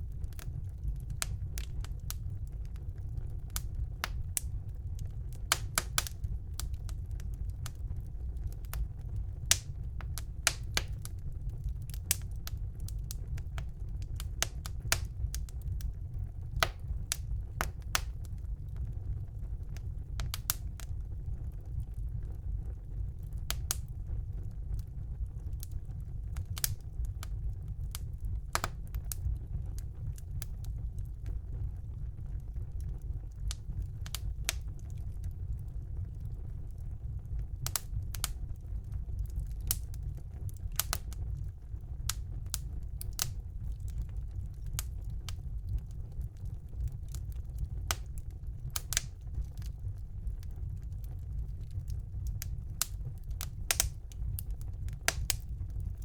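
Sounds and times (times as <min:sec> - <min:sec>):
burning logs crackling: 0:00.0 - 0:56.0
fire flames rumbling: 0:00.0 - 0:56.0.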